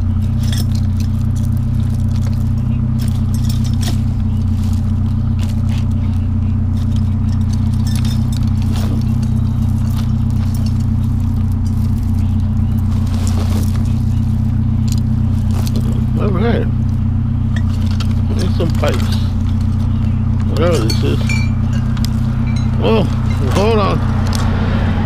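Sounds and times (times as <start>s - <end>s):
clinks and rustles of cords: 0.0s - 24.5s
vehicle engine idling: 0.0s - 25.0s.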